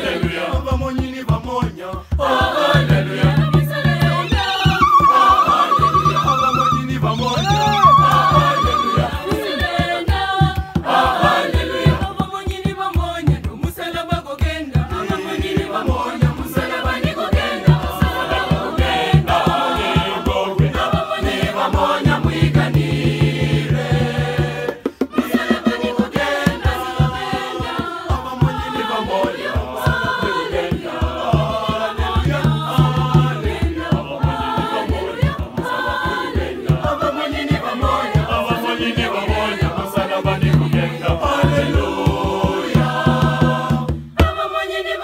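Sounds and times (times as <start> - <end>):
hand drums beating: 0.0 - 44.6
mixed choir singing gospel: 0.0 - 45.0.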